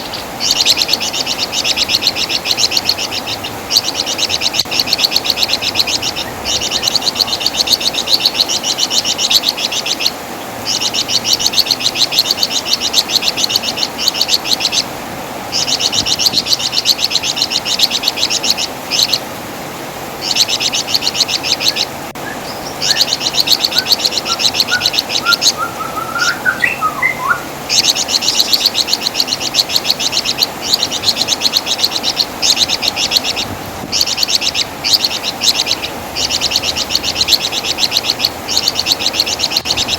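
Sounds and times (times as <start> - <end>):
faint rising bird chirps: 0.0 - 14.9, 15.5 - 19.2, 20.2 - 39.9
songbird shrill chatter: 0.0 - 14.9, 20.2 - 39.9.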